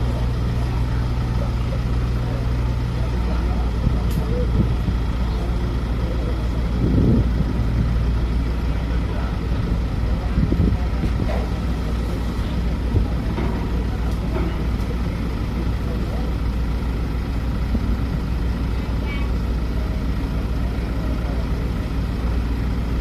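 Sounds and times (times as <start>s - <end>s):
diesel engine droning: 0.0s - 23.0s
faint voices: 0.0s - 23.0s.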